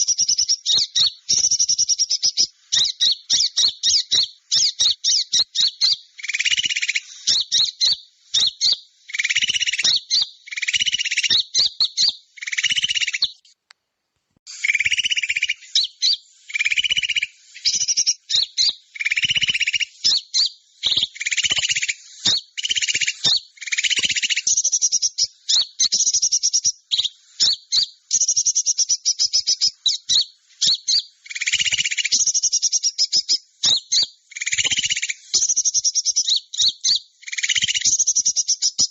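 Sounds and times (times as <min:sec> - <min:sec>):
small birds chattering trills: 0:00.0 - 0:13.6, 0:14.5 - 0:38.9.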